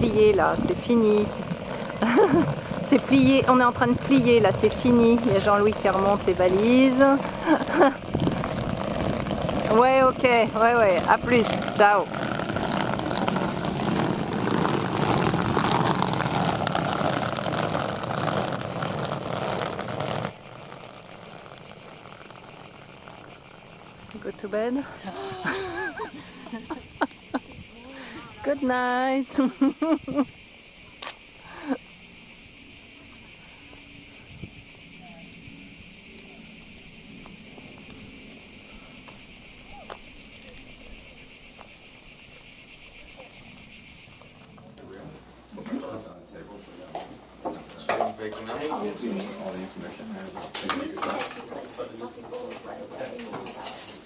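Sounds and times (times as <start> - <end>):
suitcases rolling on asphalt: 0.0 - 45.2, 46.8 - 54.0
cicadas buzzing: 0.0 - 54.0
crickets chirping: 0.0 - 54.0.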